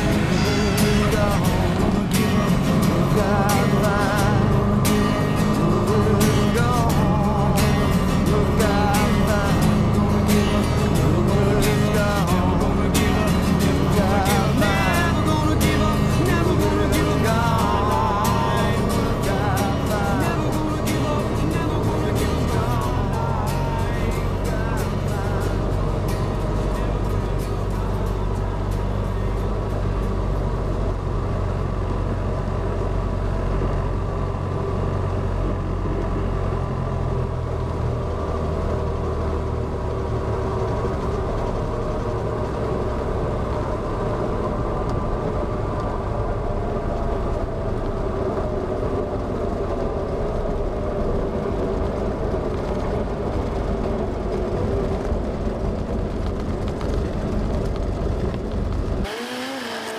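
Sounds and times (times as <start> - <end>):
airplane engine running: 0.0 - 59.9
low rumble of plane rolling: 0.0 - 59.9
wind: 0.0 - 59.9.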